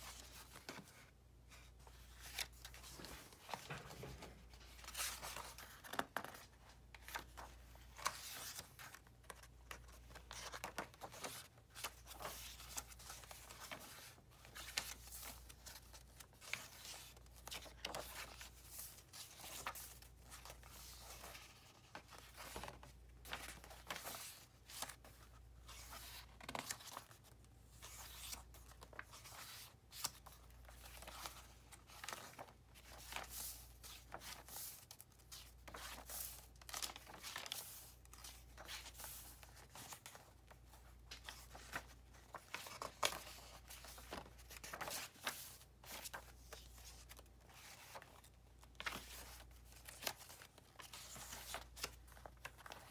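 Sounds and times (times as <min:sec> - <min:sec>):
paper pages turning: 0:00.0 - 0:52.9.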